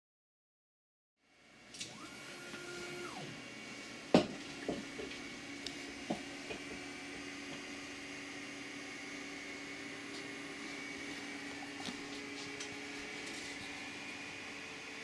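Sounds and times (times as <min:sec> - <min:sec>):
stepper motor whine: 0:01.3 - 0:15.0.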